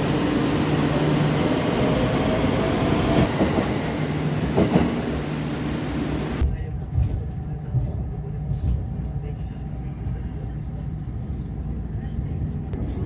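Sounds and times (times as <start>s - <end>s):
train rumble with humming tone: 0.0s - 13.0s.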